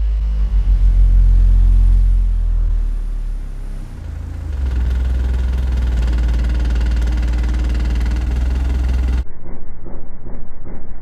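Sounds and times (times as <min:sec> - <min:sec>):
deep bass test tone: 0:00.0 - 0:11.0.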